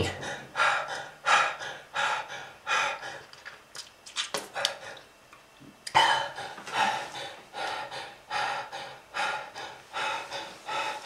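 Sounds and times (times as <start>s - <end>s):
person breathing hard: 0.0s - 3.4s, 4.5s - 5.1s, 6.0s - 11.0s.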